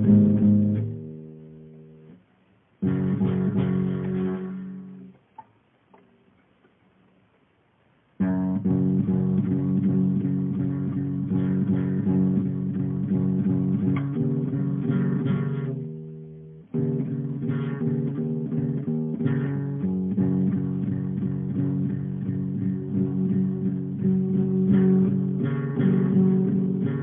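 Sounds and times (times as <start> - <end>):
plucked guitar: 0.0 - 2.2, 2.8 - 6.2, 8.2 - 27.0.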